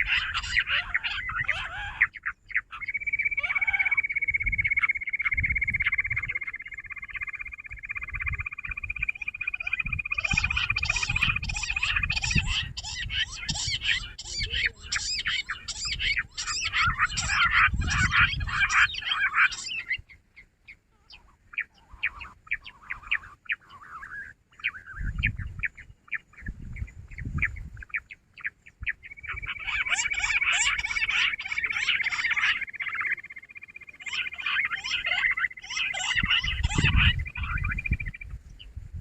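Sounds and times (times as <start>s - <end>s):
quail chirping chorus: 0.0s - 38.8s.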